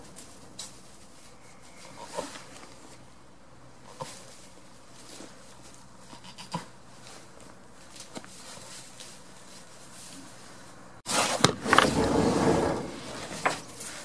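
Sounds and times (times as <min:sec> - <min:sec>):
rustling in straw: 0:00.0 - 0:11.4, 0:12.0 - 0:14.0.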